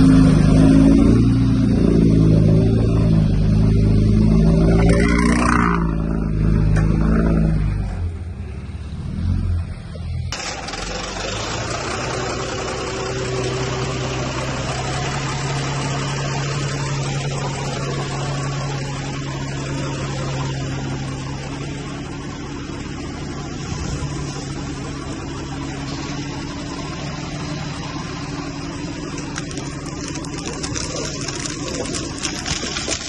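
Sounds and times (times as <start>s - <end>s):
heavy diesel machinery engine: 0.0s - 33.0s.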